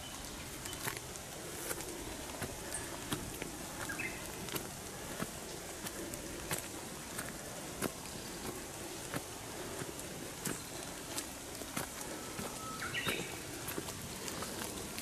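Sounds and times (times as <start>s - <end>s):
footsteps on wet gravel: 0.0s - 15.0s
outdoor hiss: 0.0s - 15.0s.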